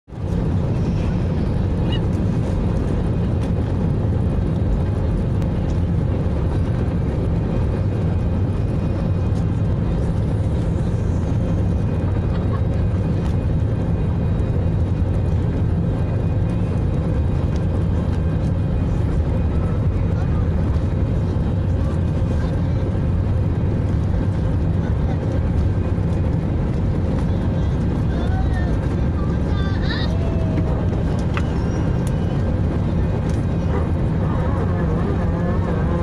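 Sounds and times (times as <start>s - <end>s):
low cabin rumble: 0.0s - 36.0s.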